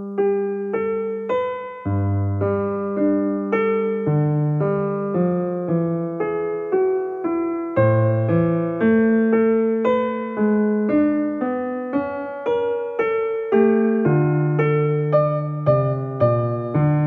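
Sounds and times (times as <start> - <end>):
gentle keyboard tune: 0.0 - 17.0.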